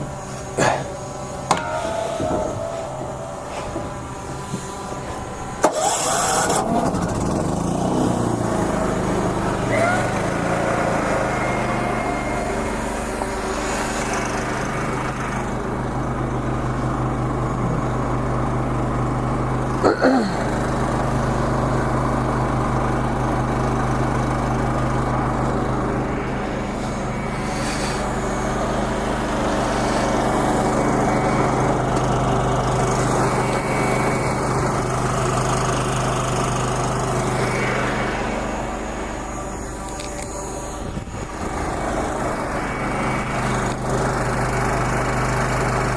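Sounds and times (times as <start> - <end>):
engine humming: 0.0 - 45.9.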